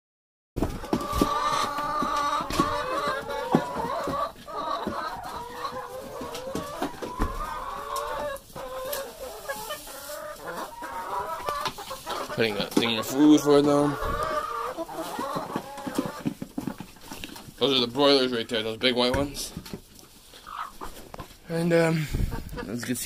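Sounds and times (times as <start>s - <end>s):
chickens clucking: 0.6s - 23.0s.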